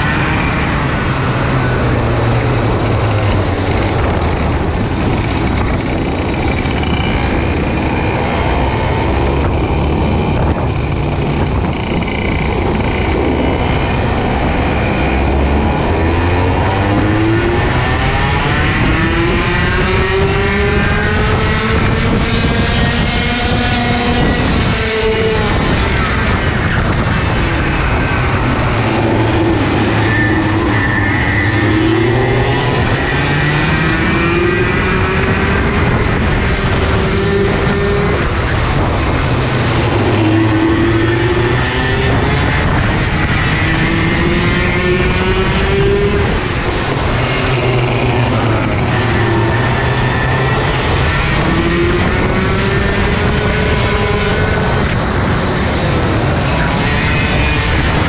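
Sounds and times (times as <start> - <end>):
kart engine revving: 0.0 - 58.0
other kart engines: 0.0 - 58.0.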